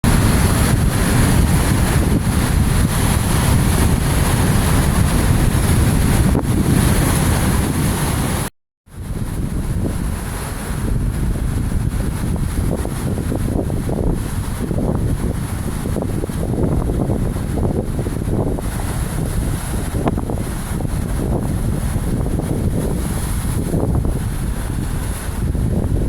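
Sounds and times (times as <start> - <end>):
sea waves breaking: 0.0 - 26.0
wind buffeting microphone: 0.0 - 26.0.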